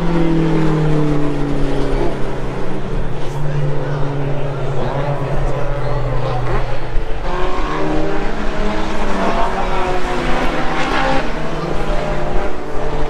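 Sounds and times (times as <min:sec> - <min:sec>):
racing car engines: 0:00.0 - 0:13.0.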